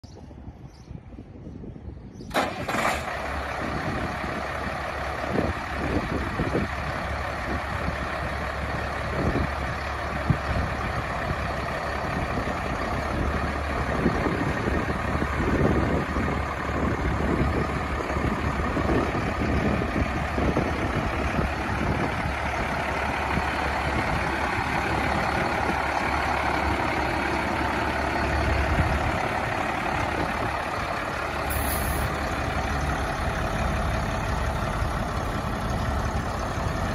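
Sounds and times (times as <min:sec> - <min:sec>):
diesel truck engine idling: 0:02.2 - 0:36.9.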